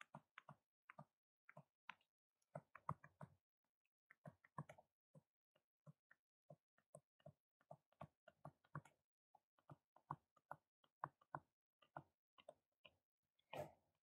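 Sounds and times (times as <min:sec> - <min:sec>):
stylus tapping and scratching on screen: 0:00.0 - 0:14.0.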